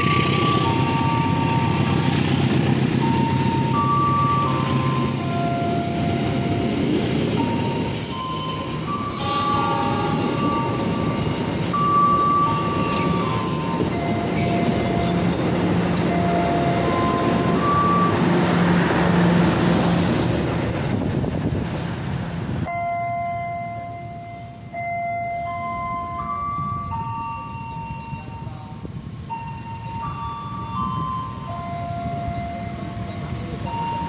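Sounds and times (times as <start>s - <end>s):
train wheels rumbling on rails: 0.0s - 22.8s, 24.5s - 34.0s.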